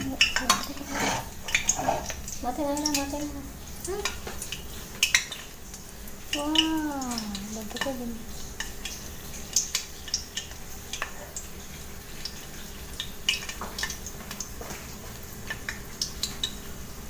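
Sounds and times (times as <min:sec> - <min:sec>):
fish cakes sizzling in oil: 0:00.0 - 0:17.0.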